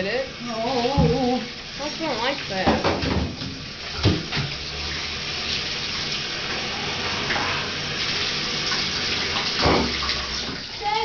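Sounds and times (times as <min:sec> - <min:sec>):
water running in bathtub: 0:00.0 - 0:11.0.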